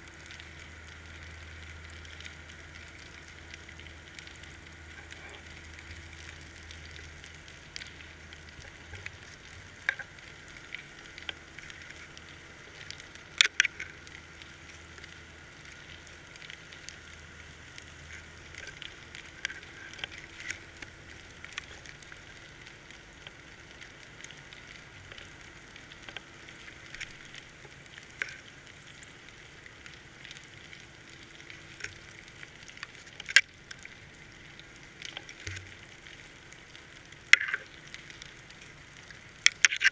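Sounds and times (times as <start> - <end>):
underwater crackling and sizzling: 0.0 - 39.9.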